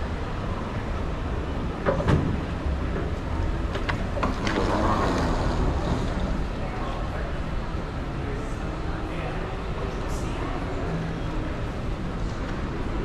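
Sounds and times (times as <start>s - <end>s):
low rumble of terminal noise: 0.0s - 13.0s.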